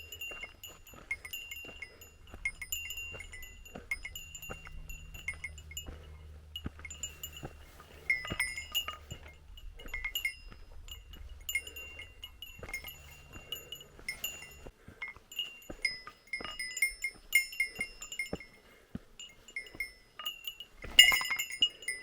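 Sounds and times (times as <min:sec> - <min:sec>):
bell jingling: 0:00.0 - 0:18.6, 0:19.2 - 0:22.0
soft footsteps: 0:00.0 - 0:22.0.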